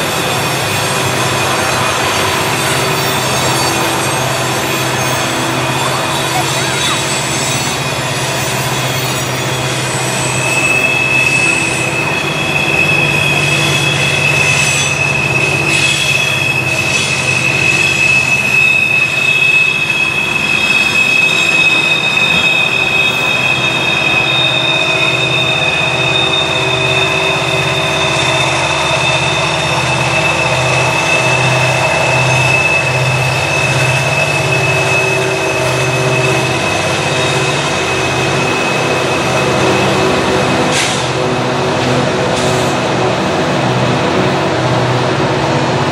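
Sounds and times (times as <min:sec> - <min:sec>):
train wheels squealing: 0:00.0 - 0:43.2
train wheels rumbling: 0:00.0 - 0:45.9.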